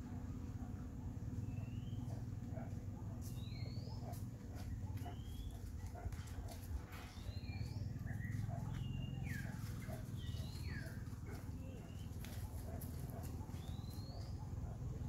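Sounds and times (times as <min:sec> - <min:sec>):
birds chirping: 0:01.0 - 0:15.0.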